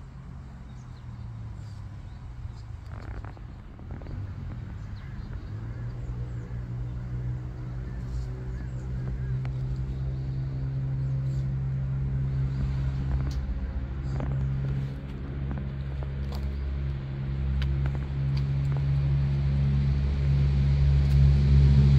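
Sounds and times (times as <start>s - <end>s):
vehicle engine running: 0.0s - 21.9s.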